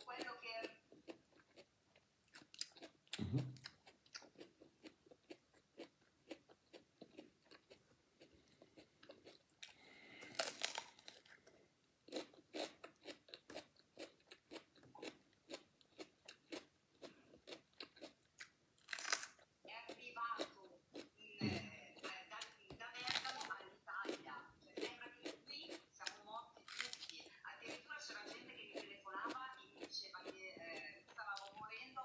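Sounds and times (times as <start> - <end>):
crisp wet crunches of chewing: 0.9 - 19.5, 23.0 - 31.6.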